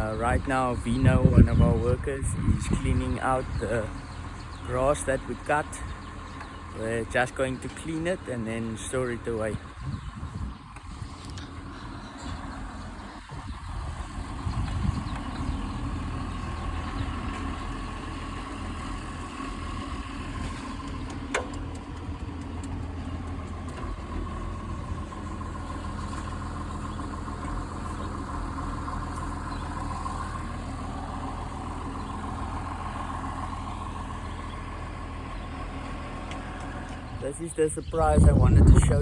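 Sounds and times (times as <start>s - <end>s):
tractor diesel engine idling: 0.0s - 39.0s.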